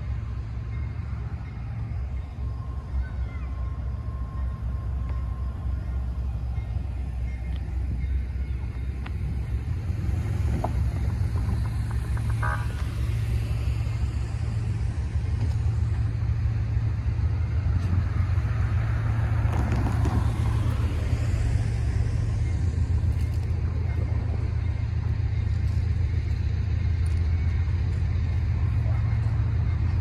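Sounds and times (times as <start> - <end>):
diesel locomotive rumble: 0.0 - 30.0.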